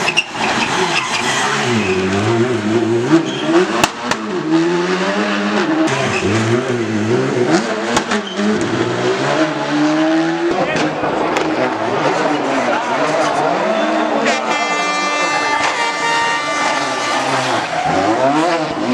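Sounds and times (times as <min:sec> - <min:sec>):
car engine revving hard: 0:00.0 - 0:14.6, 0:15.6 - 0:18.9.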